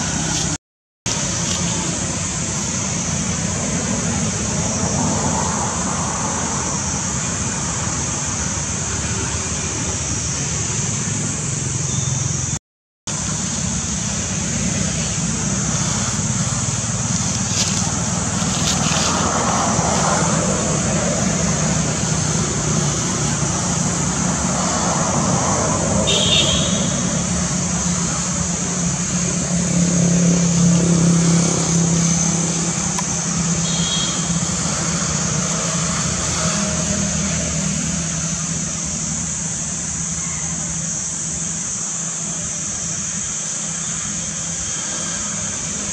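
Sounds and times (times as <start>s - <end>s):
high-pitched hiss: 0.0s - 45.9s.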